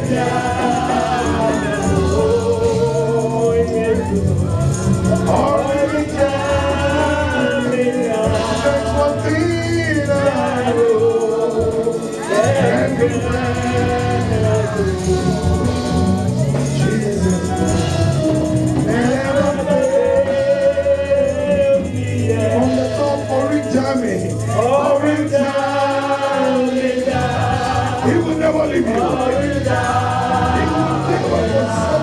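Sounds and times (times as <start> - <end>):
band playing: 0.0 - 32.0
congregation singing gospel: 0.0 - 32.0
steady bass line: 0.0 - 32.0.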